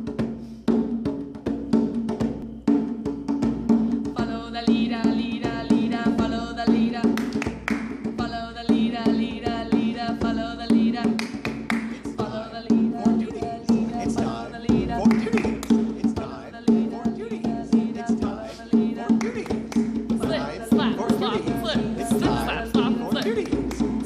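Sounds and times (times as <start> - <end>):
hand drum beating: 0.0 - 24.0
voices singing: 4.2 - 24.0.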